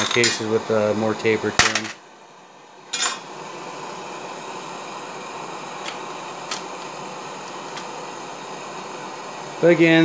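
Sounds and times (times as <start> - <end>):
torch burning hiss: 0.0 - 10.0.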